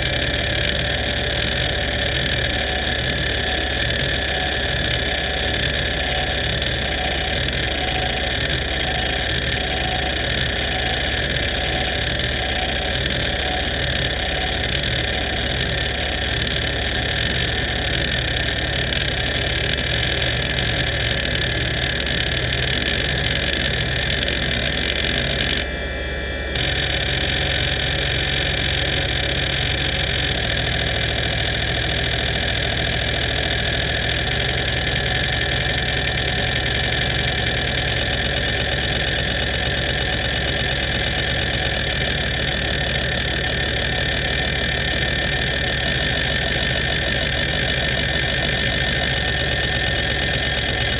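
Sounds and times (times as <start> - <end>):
hard drive spindle whine: 0.0 - 50.9.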